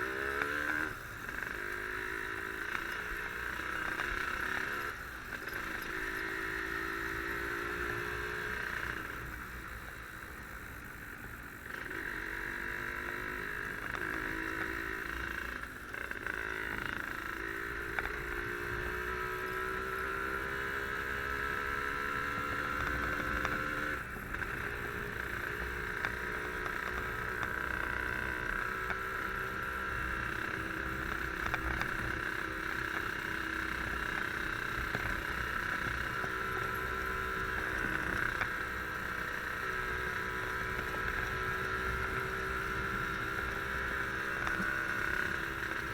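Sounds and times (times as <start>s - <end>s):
two-stroke motorcycle engine running: 0.0s - 45.9s
wind and road noise: 0.0s - 45.9s.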